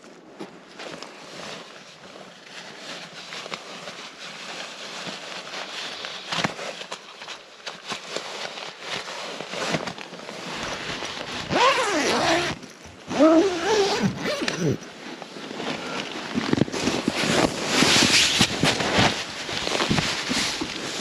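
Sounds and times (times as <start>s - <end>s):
tent fabric rustling: 0.0s - 21.0s.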